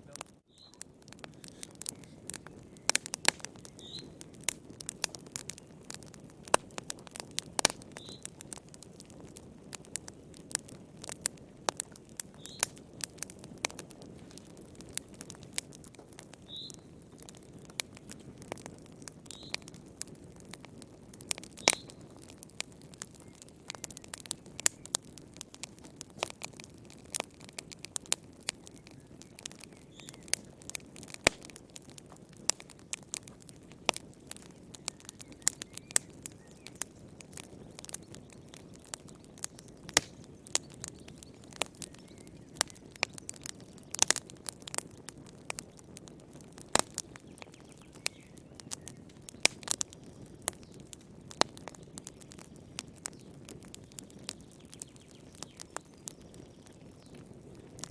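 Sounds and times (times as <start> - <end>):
campfire pops and snaps: 0.0 - 57.9
low rush of burning fire: 0.0 - 57.9.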